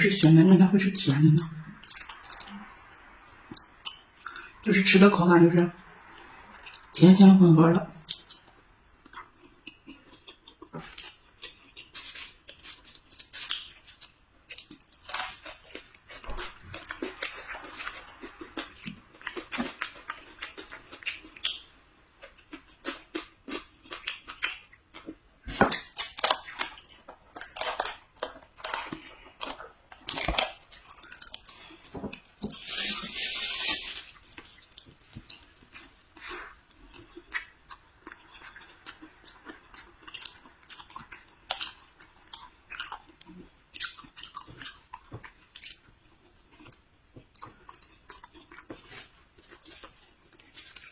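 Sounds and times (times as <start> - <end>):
chewing and biting: 8.0 - 32.3, 34.4 - 50.9.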